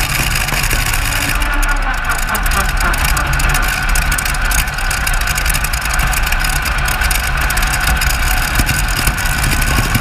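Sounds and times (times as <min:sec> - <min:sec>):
large engine idling: 0:00.0 - 0:10.0.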